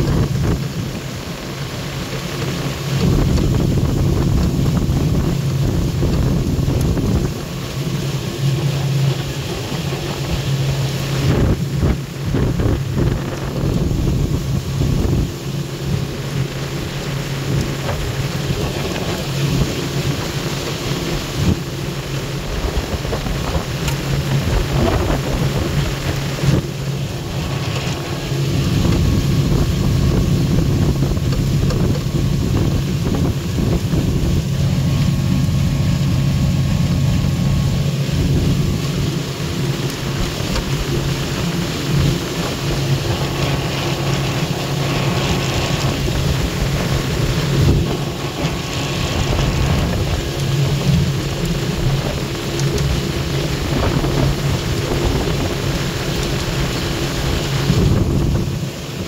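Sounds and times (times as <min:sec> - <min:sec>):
motorboat engine humming: 0:00.0 - 0:59.0
rushing wind and water: 0:00.0 - 0:59.0.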